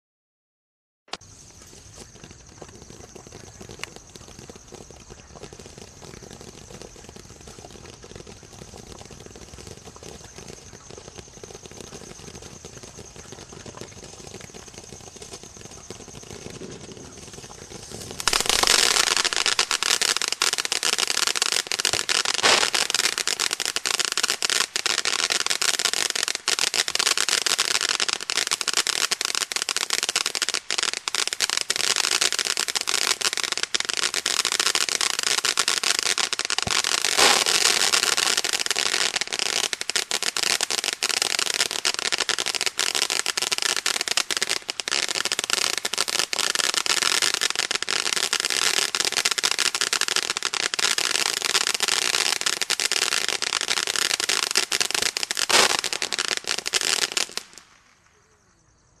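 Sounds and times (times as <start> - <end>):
firework fountain crackling: 1.1 - 58.1
firework bursts: 1.1 - 58.2.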